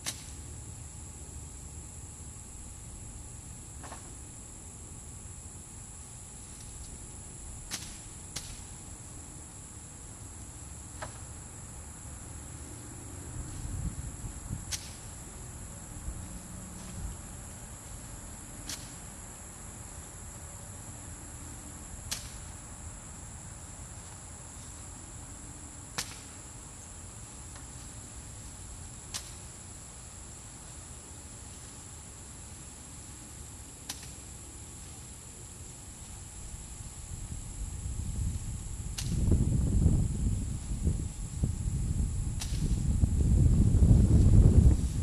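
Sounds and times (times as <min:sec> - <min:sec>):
crickets trilling: 0:00.0 - 0:45.0.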